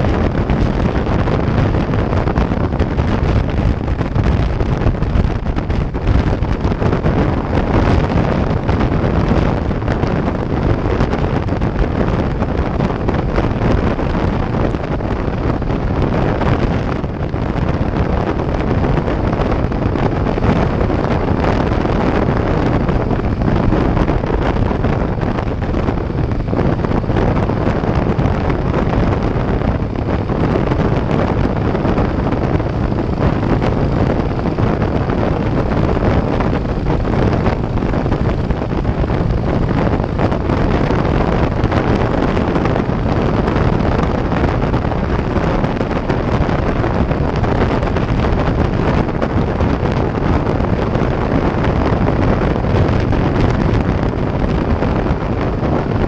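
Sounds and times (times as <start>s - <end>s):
motorcycle engine: 0.0s - 56.0s
road noise: 0.0s - 56.0s
wind buffeting microphone: 0.0s - 56.0s.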